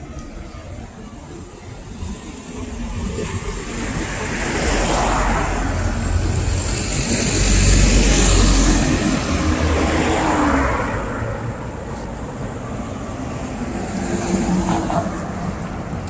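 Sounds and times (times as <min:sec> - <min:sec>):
vehicle engine rumble passing by: 0:00.0 - 0:16.0.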